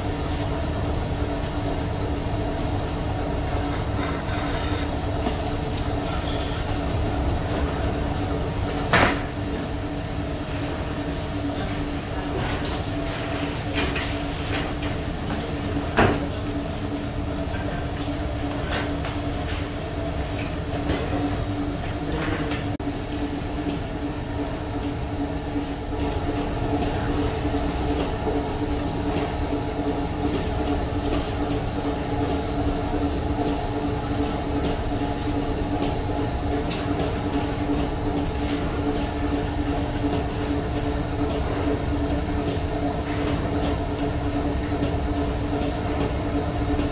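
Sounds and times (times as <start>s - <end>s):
machinery hum: 0.0s - 46.9s.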